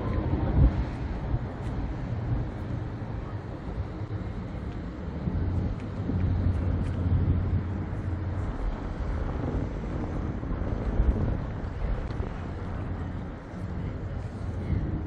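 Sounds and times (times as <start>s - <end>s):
low engine drone: 0.0s - 15.0s
wind buffeting microphone: 0.0s - 15.0s.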